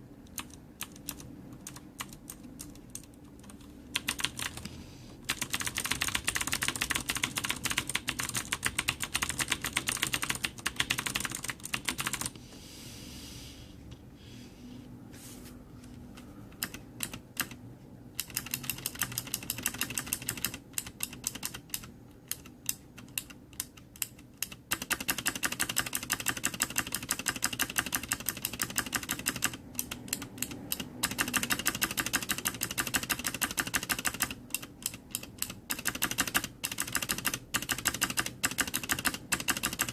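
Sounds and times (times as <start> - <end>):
mechanical keyboard keys clacking: 0.3 - 4.7, 5.3 - 12.3, 16.6 - 17.6, 18.2 - 39.9.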